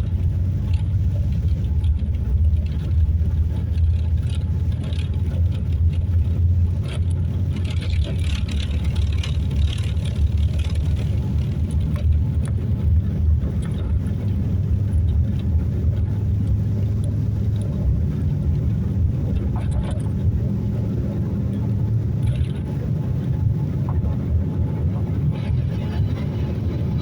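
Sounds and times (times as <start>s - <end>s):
airliner cabin engine rumble: 0.0s - 27.0s.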